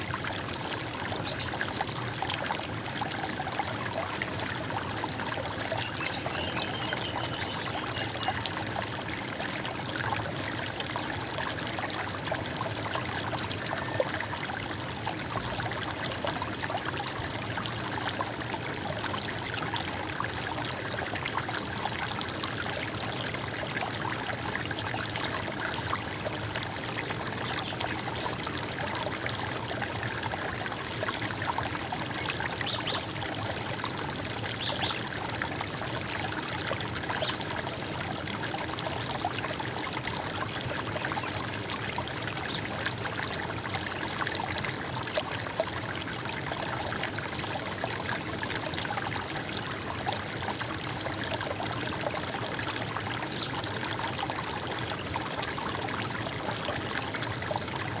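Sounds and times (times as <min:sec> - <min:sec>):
water trickling and gurgling: 0:00.0 - 0:58.0.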